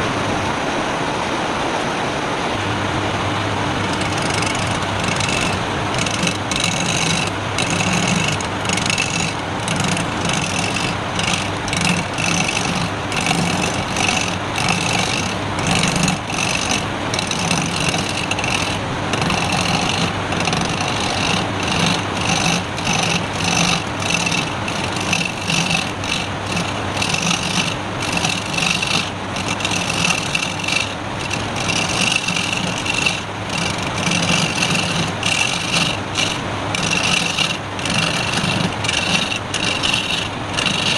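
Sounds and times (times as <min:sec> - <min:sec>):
lathe motor hum: 0:02.5 - 0:40.9
turning tool scraping wood: 0:03.6 - 0:40.9.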